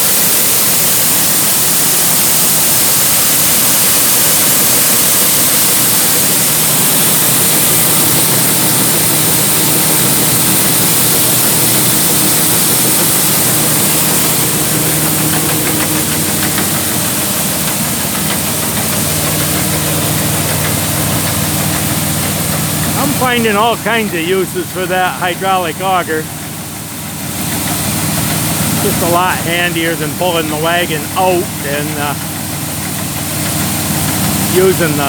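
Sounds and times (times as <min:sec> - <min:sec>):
machinery hiss: 0:00.0 - 0:26.5, 0:27.1 - 0:35.0
tractor engine hum: 0:04.6 - 0:35.0.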